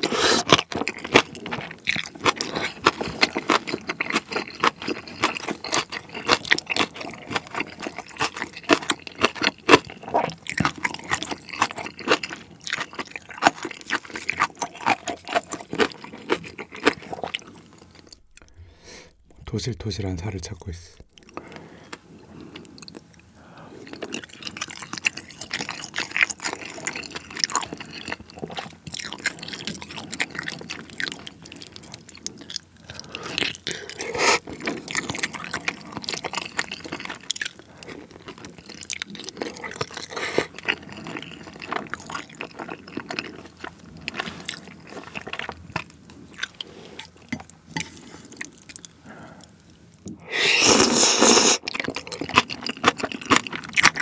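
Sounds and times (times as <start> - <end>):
person chewing: 0.0 - 19.5, 21.0 - 54.0.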